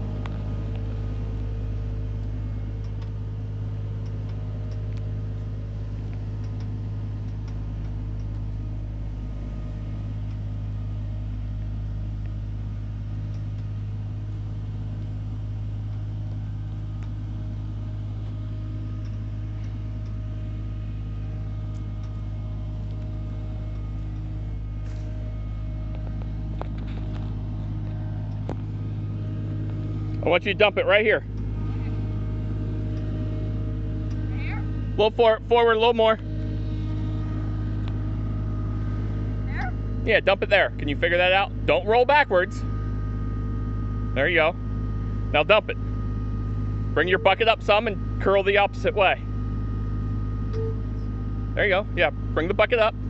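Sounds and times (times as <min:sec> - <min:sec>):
skid steer loader engine running: 0:00.0 - 0:53.0.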